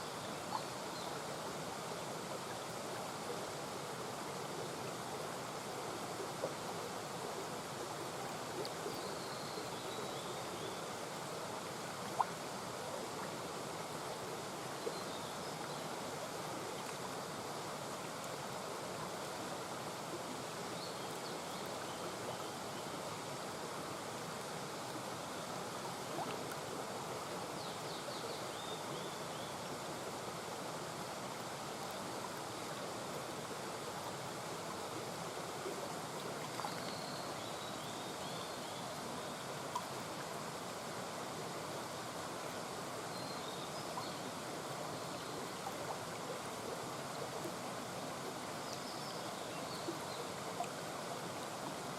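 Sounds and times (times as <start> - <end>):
brook water running over stones: 0.0 - 51.9.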